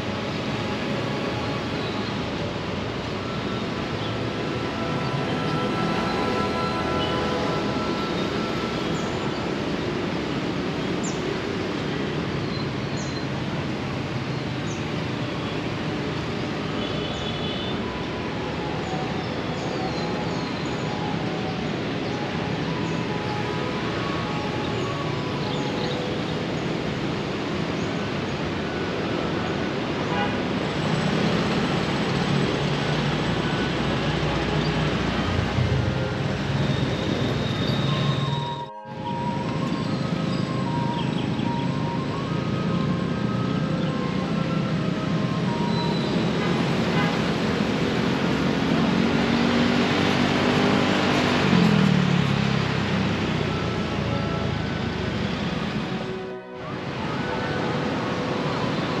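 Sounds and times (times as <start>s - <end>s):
city background rumble: 0.0s - 59.0s
road traffic passing: 0.0s - 59.0s.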